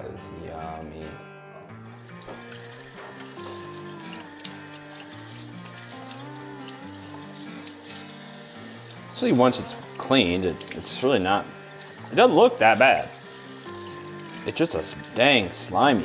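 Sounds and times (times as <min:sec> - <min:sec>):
background music: 0:00.0 - 0:16.0
faucet water running: 0:01.8 - 0:16.0.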